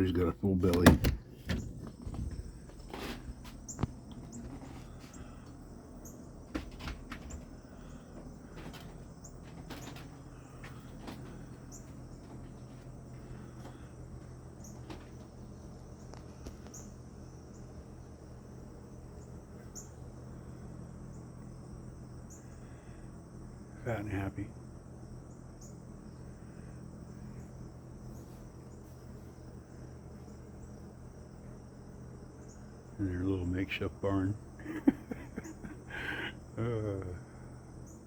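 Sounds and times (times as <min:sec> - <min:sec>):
faint high insect chirps: 0:00.0 - 0:38.0.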